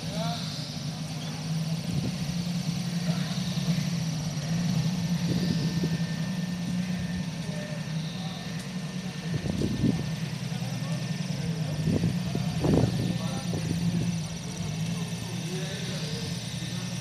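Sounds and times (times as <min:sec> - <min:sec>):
car engine running low speed: 0:00.0 - 0:17.0.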